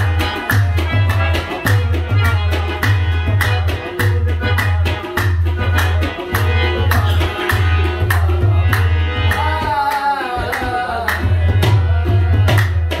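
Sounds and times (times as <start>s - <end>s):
harmonium and tabla playing: 0.0s - 13.0s.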